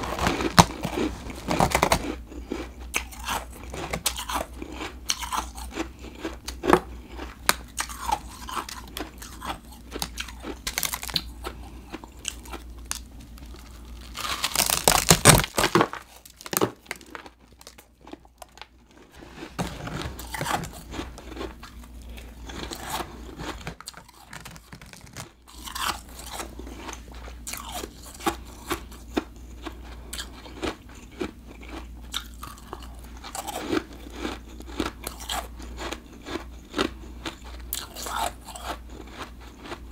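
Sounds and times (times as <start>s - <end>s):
chewing: 0.0s - 14.7s, 16.9s - 39.9s
crunching ice: 0.0s - 39.8s.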